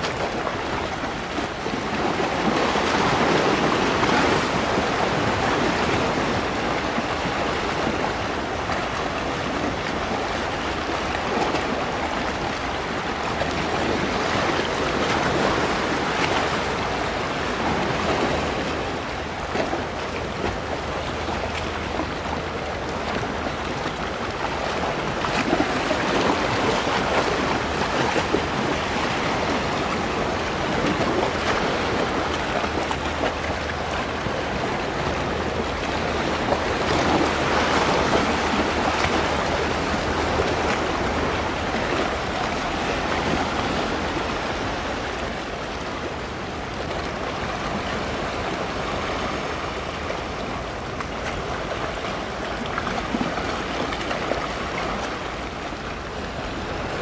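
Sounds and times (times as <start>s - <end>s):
sea waves washing: 0.0s - 57.0s
wind buffeting microphone: 0.0s - 57.0s.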